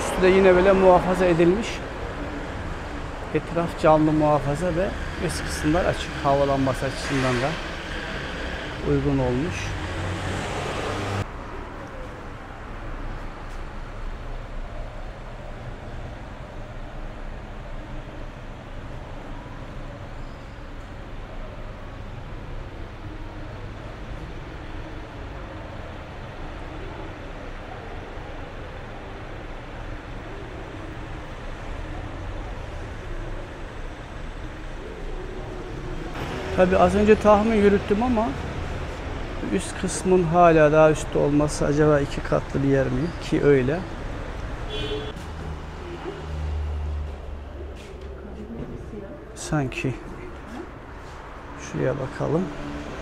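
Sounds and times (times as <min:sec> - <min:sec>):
distant road traffic hum: 0:00.0 - 0:53.0.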